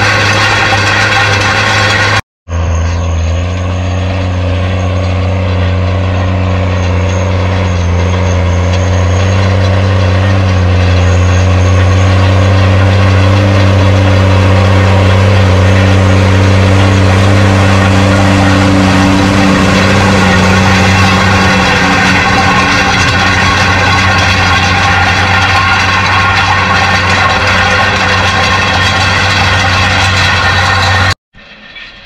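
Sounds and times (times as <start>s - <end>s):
tractor engine under load: 0.0s - 32.0s.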